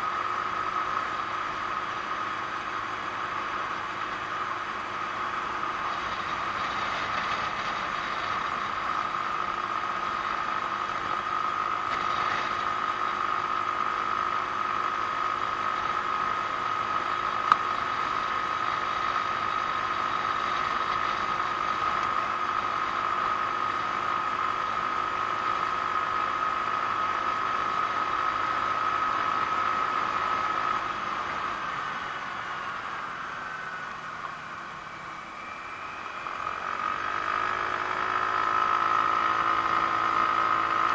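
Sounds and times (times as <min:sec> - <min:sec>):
scooter engine whine: 0:00.0 - 0:40.9
wind and road noise: 0:00.0 - 0:40.9.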